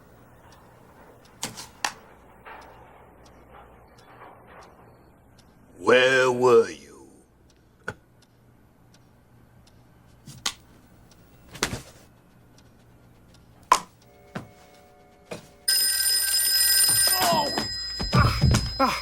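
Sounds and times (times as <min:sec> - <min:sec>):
faint steady hum: 0:00.0 - 0:16.6.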